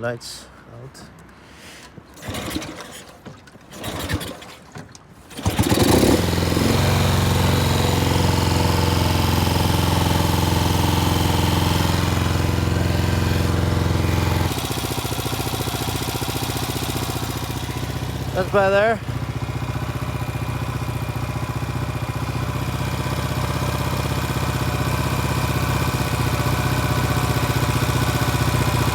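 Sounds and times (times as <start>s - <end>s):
motorcycle engine starting and idling: 2.1s - 28.9s.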